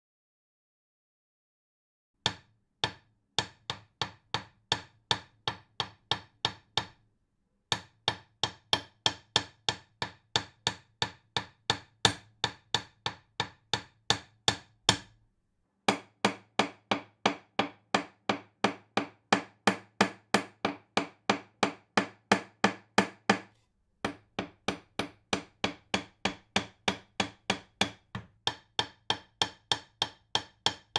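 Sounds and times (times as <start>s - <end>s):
hammer driving a nail: 2.3s - 7.0s, 7.7s - 15.2s, 15.9s - 23.5s, 24.1s - 30.9s.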